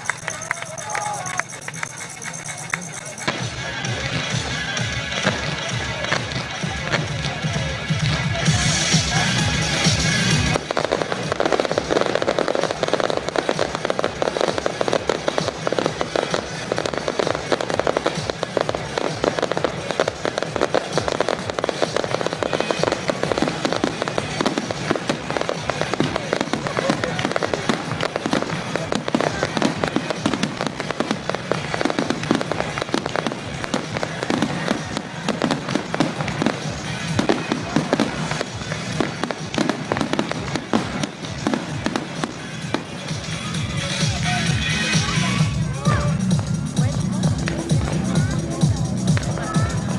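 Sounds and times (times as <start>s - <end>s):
fireworks bangs and crackles: 0.0s - 49.9s
music playing: 0.0s - 49.9s.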